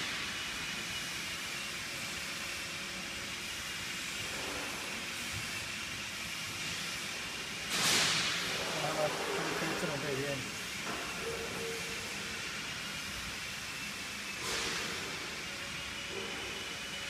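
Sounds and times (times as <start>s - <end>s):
fabric machine hiss: 0.0s - 17.0s.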